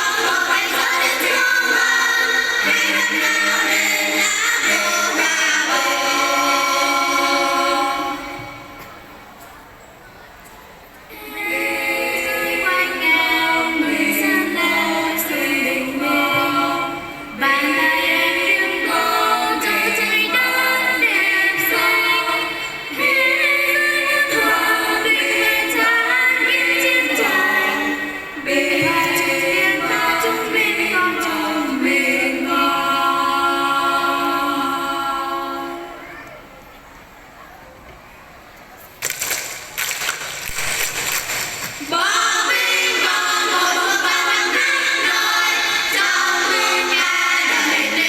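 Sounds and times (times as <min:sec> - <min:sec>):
choir singing: 0:00.0 - 0:09.1, 0:11.1 - 0:36.3, 0:41.8 - 0:48.0.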